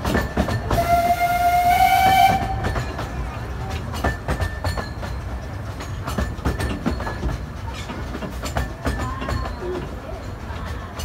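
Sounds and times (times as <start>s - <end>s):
train rumble: 0.0s - 11.0s
wheels clicking on track: 0.0s - 11.0s.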